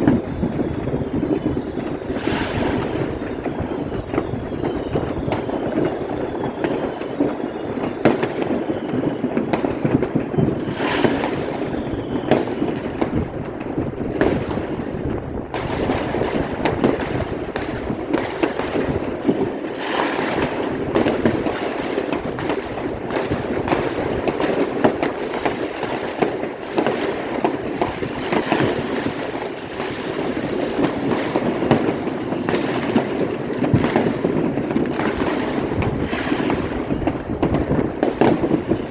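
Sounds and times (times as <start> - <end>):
fireworks and firecrackers bangs: 0.0 - 38.9.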